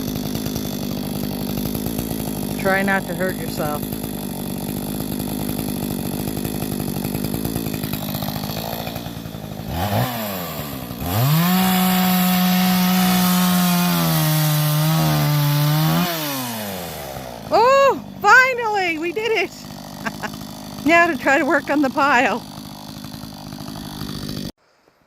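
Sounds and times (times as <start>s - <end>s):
chainsaw idling and revving: 0.0s - 24.6s
chainsaw cutting log: 0.0s - 25.0s.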